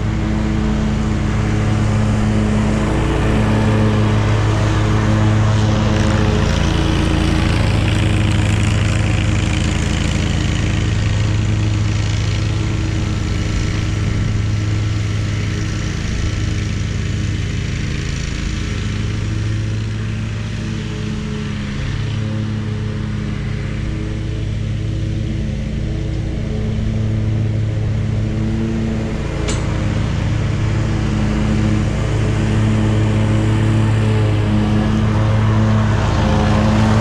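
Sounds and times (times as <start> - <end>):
riding mower engine running: 0.0 - 37.0.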